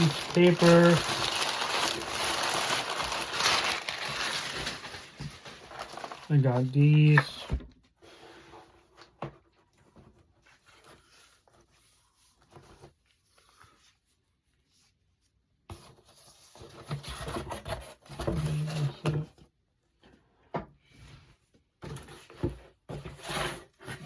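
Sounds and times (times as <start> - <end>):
cardboard and paper rustling: 0.0 - 19.3, 21.8 - 24.0.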